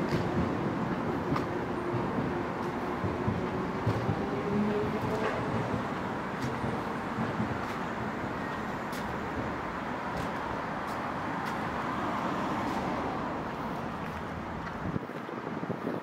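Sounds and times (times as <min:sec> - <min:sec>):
passing road traffic: 0:00.0 - 0:16.0.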